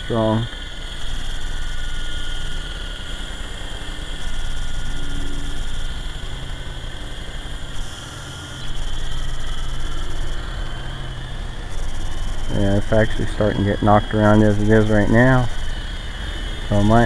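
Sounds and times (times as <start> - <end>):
toy helicopter motors whining: 0.0 - 17.0.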